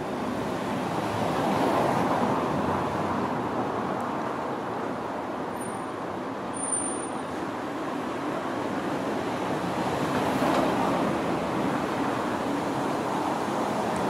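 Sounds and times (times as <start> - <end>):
road traffic rush: 0.0 - 14.0.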